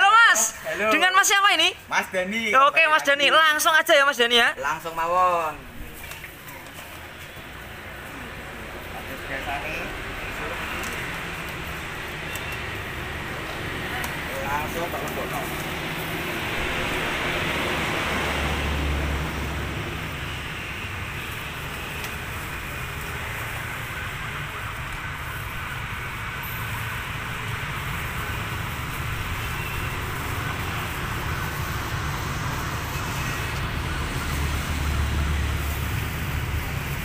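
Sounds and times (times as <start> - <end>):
roadside traffic noise: 0.0 - 37.0.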